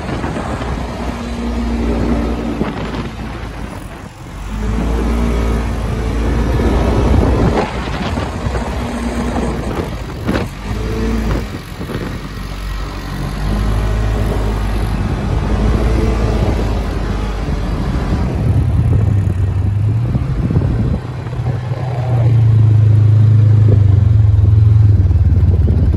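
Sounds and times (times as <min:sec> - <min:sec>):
quad bike engines revving: 0:00.0 - 0:25.9.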